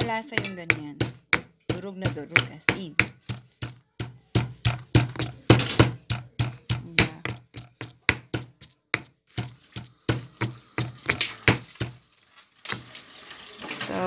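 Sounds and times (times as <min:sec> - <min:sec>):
pestle pounding in stone mortar: 0:00.0 - 0:12.0.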